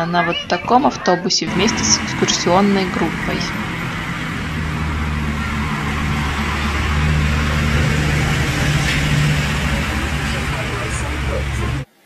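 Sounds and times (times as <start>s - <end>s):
road train motor humming: 0.0s - 11.9s.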